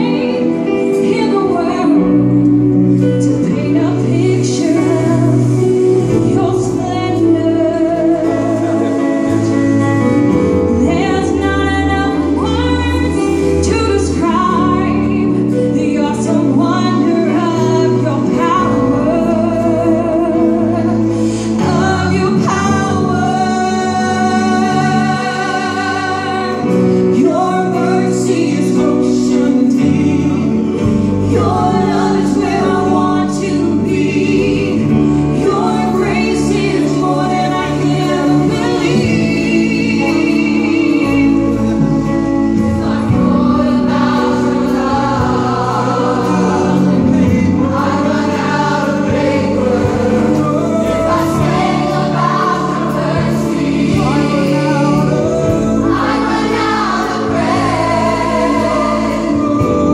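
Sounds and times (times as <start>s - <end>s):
choir singing gospel song: 0.0s - 59.9s
keyboard accompaniment: 0.0s - 59.9s
man and woman singing into microphones: 0.0s - 59.9s.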